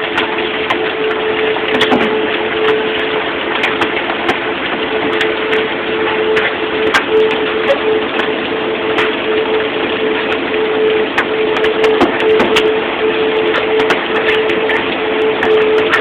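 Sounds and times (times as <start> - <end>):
hail and rain roaring: 0.0 - 16.0
steady hum: 0.0 - 16.0.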